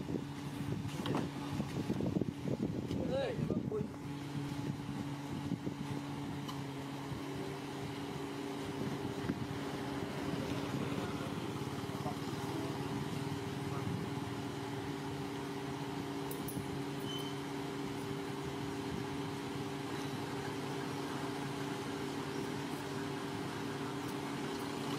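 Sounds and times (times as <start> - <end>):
car engine idling hum: 0.0 - 24.9.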